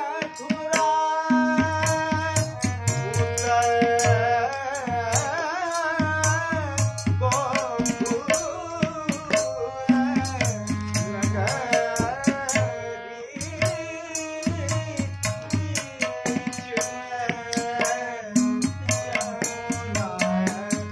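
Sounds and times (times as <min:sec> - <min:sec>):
tabla strokes: 0:00.0 - 0:12.8, 0:13.4 - 0:20.9
harmonium chords: 0:00.0 - 0:20.9
man singing: 0:00.0 - 0:20.9.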